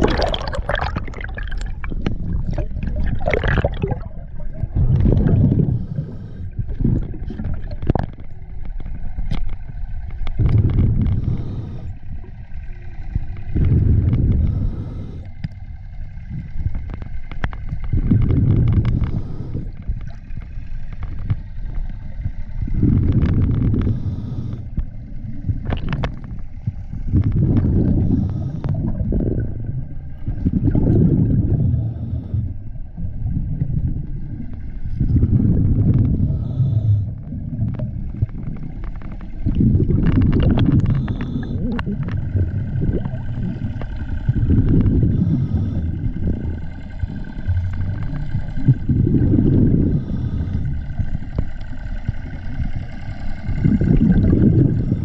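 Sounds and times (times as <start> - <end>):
exhaled bubbles underwater: 0.0 - 55.0.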